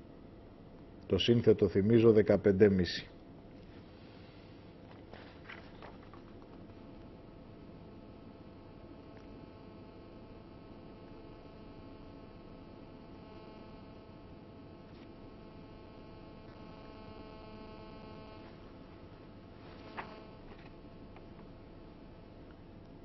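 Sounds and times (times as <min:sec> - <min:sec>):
mains hum with low hiss: 0:00.0 - 0:23.0.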